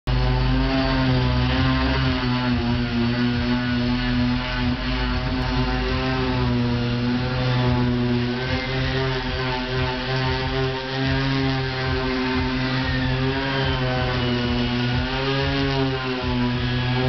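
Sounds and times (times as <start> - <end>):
power tool motor drone: 0.1 - 17.0.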